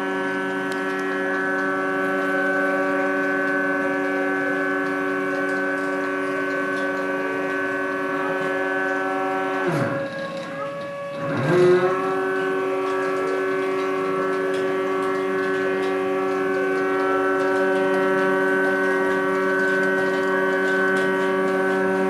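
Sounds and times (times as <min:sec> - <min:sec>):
drive motors whining: 0:00.0 - 0:22.0.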